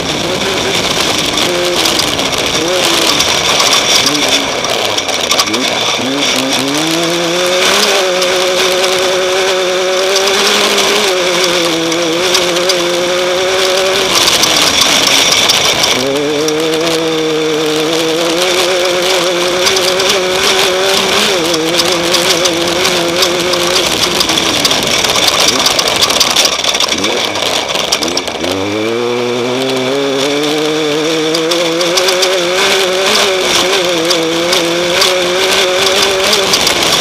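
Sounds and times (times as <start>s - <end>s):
race vehicle engine revving: 0.0s - 37.0s.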